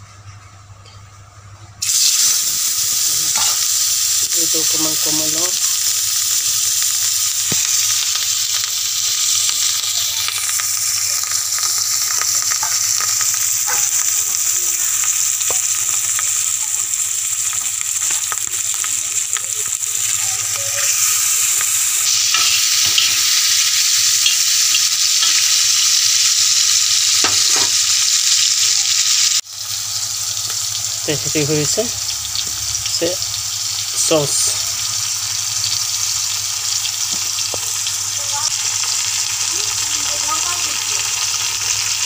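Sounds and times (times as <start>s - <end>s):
meat sizzling in hot oil: 1.8s - 42.0s.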